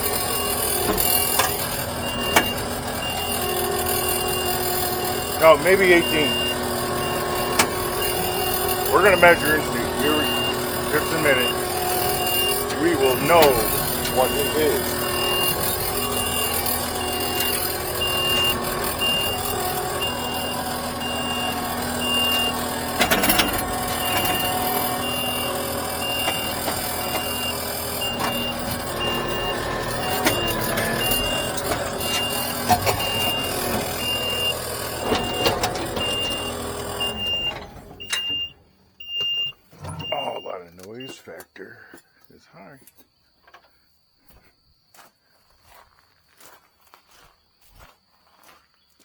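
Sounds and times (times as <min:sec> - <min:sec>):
loud engine and machinery noise: 0:00.0 - 0:41.2
reversing alarm beeping: 0:00.0 - 0:41.3.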